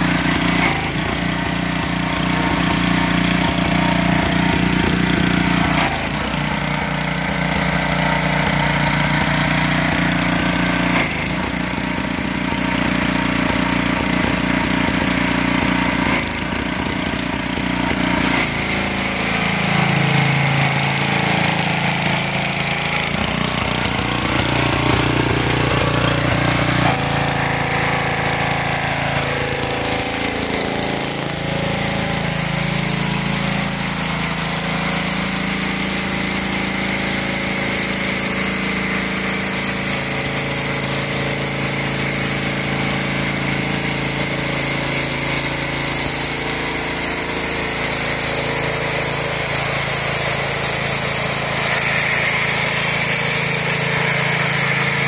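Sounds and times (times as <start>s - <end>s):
high-pressure spray hissing on concrete: 0.0s - 55.0s
pressure washer engine running: 0.0s - 55.0s.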